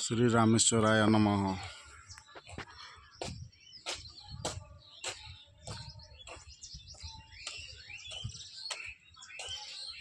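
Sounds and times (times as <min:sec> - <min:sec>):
small birds chirping: 0:00.0 - 0:10.0
footsteps on pavement: 0:01.2 - 0:10.0.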